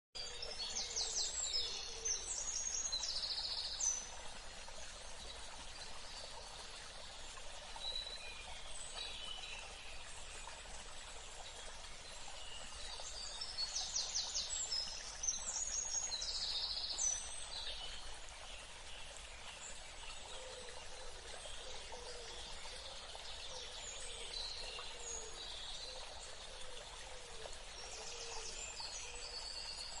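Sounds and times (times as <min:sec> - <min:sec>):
songbirds singing: 0:00.2 - 0:30.0.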